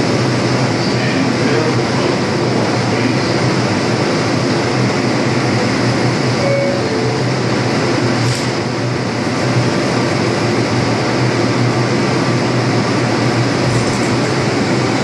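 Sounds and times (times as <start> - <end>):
subway train equipment humming: 0.0 - 15.0.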